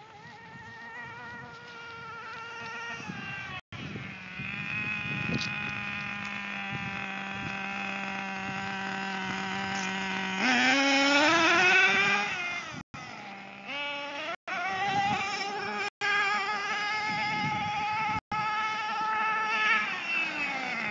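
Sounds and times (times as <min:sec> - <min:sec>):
toy truck motor whining: 0:00.0 - 0:20.9.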